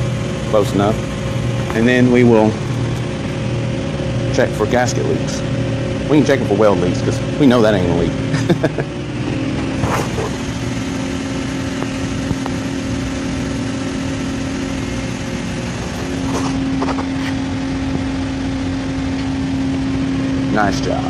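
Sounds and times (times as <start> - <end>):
industrial machinery drone: 0.0 - 21.0.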